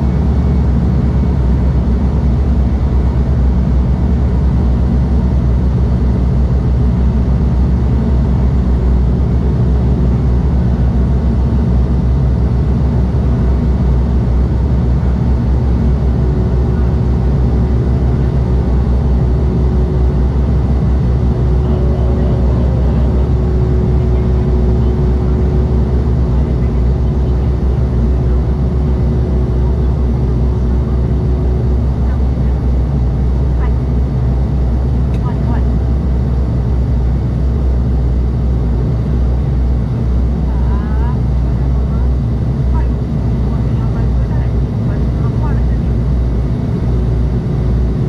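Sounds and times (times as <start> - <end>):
turboprop engines droning: 0.0 - 48.0.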